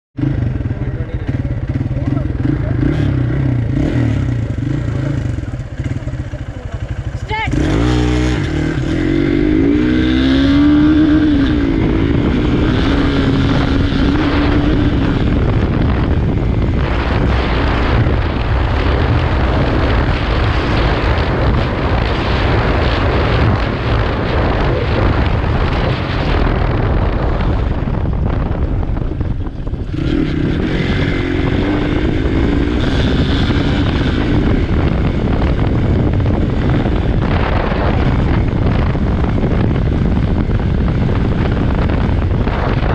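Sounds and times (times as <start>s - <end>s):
motorcycle engine accelerating: 0.2s - 42.9s
wind and road noise: 0.2s - 42.9s.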